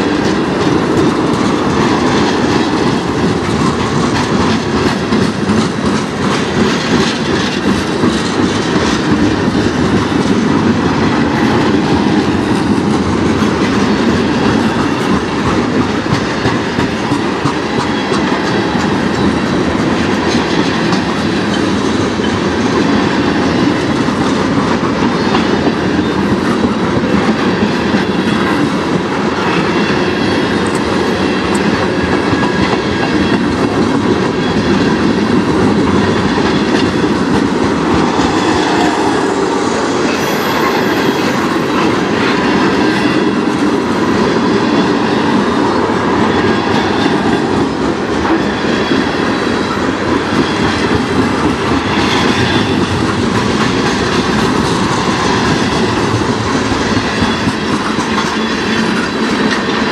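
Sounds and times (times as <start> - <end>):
steel wheels rumbling on rails: 0.0 - 59.9
wheels clicking over rail joints: 0.0 - 59.9.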